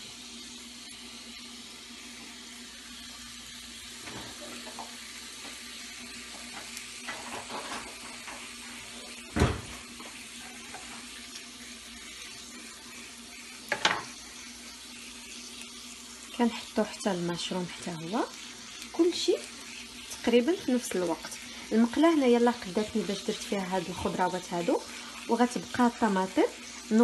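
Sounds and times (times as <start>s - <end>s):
food sizzling in a grill pan: 0.0s - 27.0s.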